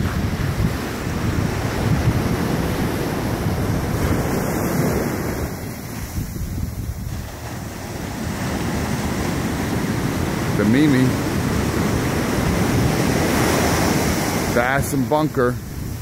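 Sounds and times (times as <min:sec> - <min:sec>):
waves washing up a beach: 0:00.0 - 0:16.0
wind buffeting microphone: 0:00.0 - 0:16.0.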